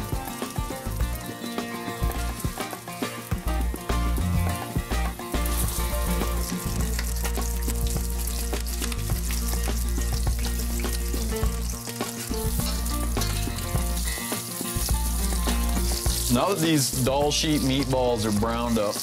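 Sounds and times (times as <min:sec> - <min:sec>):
meatballs sizzling in hot oil: 0:00.0 - 0:19.0.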